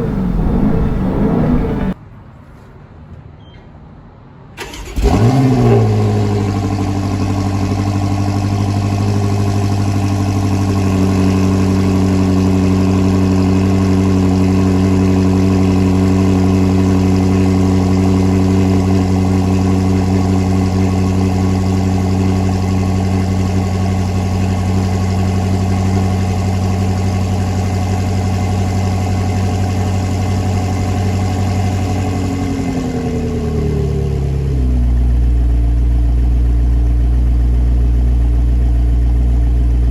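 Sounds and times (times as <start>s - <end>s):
car engine idling: 0.0s - 2.0s, 4.6s - 39.9s.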